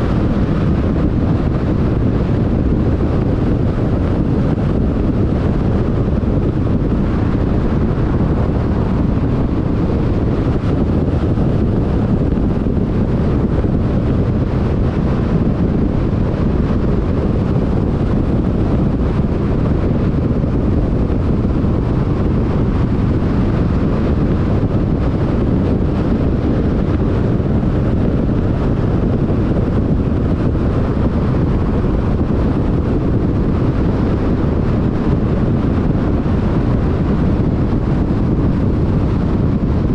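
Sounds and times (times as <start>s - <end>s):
car tyre and wind noise: 0.0s - 39.9s
low road rumble: 0.0s - 39.9s.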